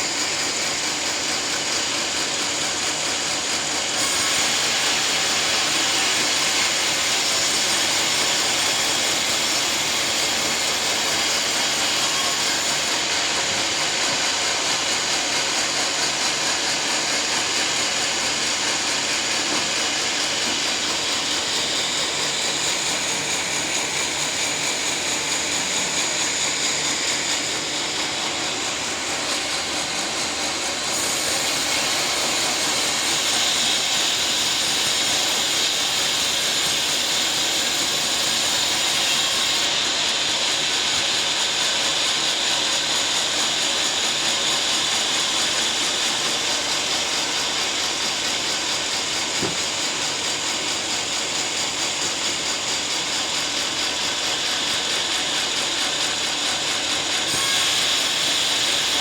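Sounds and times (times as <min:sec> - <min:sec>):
sawmill sawing log: 0:00.0 - 0:59.0.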